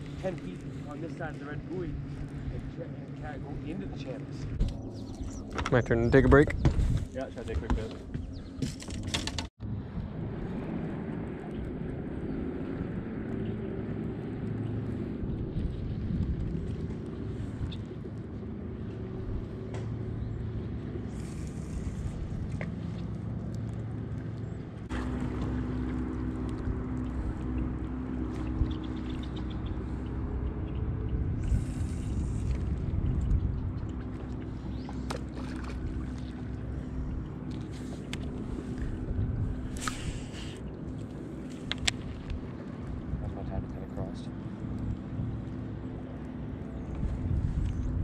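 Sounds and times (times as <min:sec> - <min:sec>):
boat motor humming: 0:00.0 - 0:48.0.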